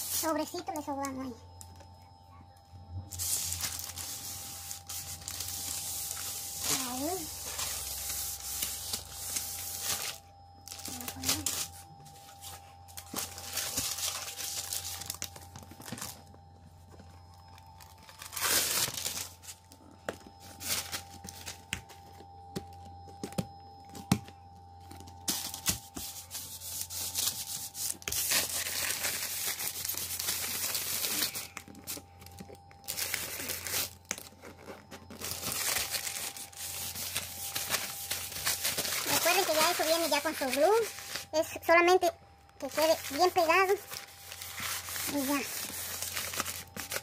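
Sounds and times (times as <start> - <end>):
paper backing crinkling and peeling: 3.1 - 24.2, 24.8 - 47.0.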